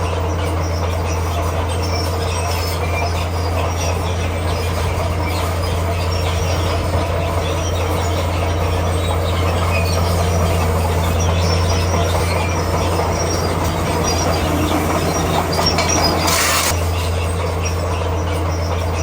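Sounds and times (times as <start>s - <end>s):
bulldozer engine hum: 0.0s - 19.0s
steel tracks squealing: 0.0s - 19.0s.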